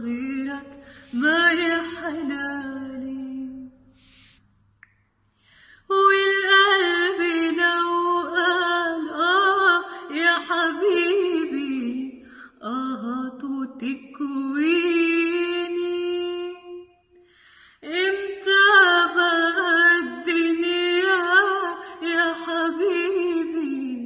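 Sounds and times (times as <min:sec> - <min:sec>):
woman singing unaccompanied: 0:00.0 - 0:03.8, 0:05.9 - 0:16.9, 0:17.8 - 0:24.0.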